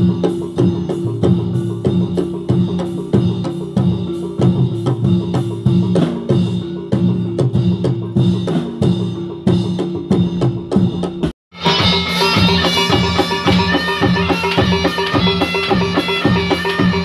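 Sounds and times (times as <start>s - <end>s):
drums beating driving rhythm: 0.0s - 17.0s.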